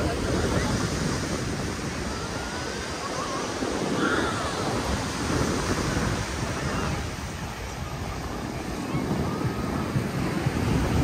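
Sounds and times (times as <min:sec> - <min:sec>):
surf washing on sandy beach: 0:00.0 - 0:11.0
wind buffeting microphone: 0:00.0 - 0:11.0.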